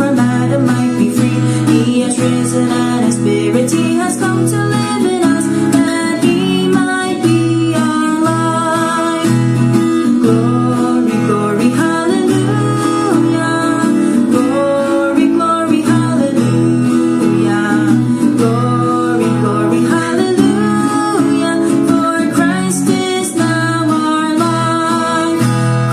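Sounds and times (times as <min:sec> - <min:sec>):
acoustic guitar music: 0:00.0 - 0:25.9.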